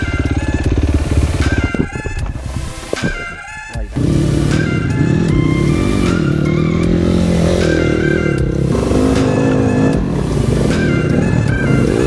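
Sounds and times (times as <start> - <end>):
background music: 0.0 - 12.0
dirt bike engines revving: 0.0 - 12.0.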